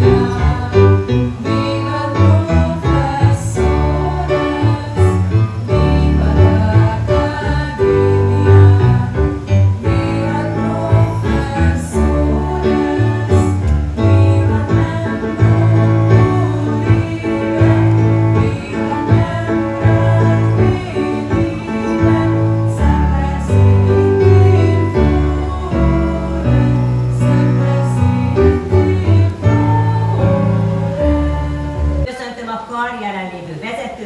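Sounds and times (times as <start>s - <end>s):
choir singing: 0.0s - 32.1s
instrumental music with strong bass: 0.0s - 32.1s.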